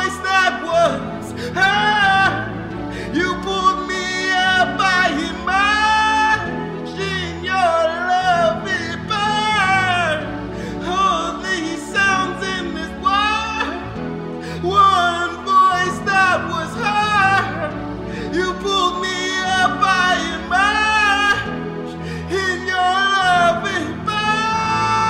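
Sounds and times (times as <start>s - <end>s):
sustained instrumental backing: 0.0s - 25.0s.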